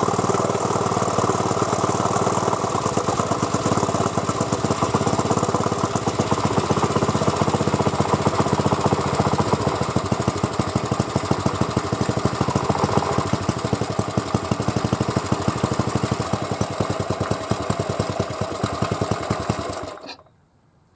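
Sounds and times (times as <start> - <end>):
generator engine running: 0.0 - 20.1.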